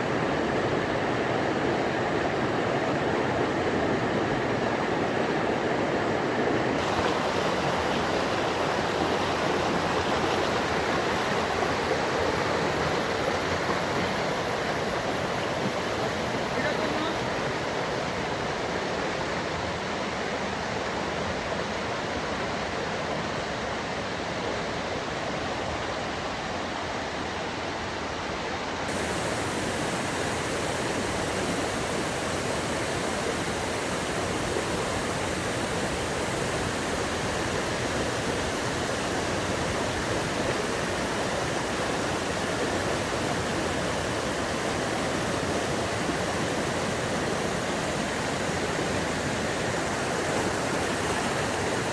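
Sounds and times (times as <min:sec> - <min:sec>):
fast-flowing water rushing: 0:00.0 - 0:51.9.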